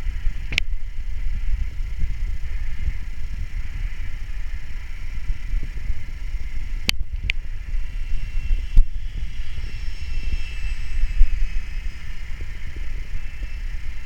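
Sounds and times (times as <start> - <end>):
model helicopter whine: 0.0 - 14.0
wind rumbling on microphone: 0.0 - 14.0.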